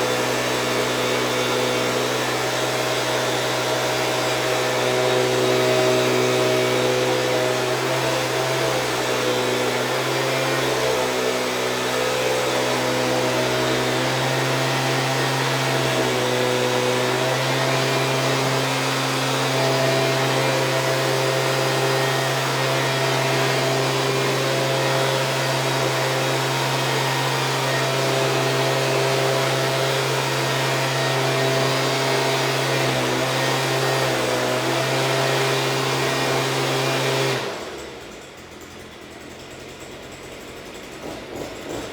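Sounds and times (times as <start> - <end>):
leaf blower engine running: 0.0 - 41.9.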